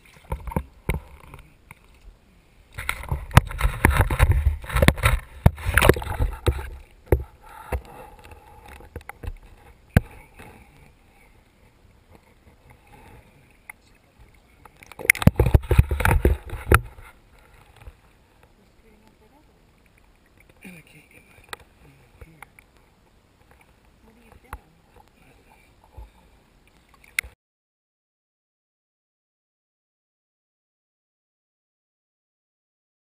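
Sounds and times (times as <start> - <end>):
water churning and gurgling: 0.0 - 27.4.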